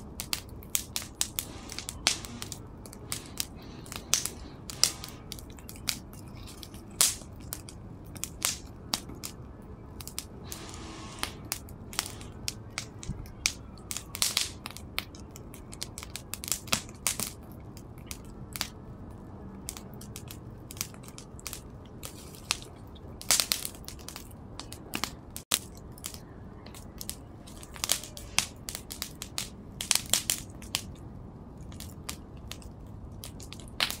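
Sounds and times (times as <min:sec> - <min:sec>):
fire crackling and popping: 0:00.0 - 0:34.0
low rush of flame: 0:00.0 - 0:34.0.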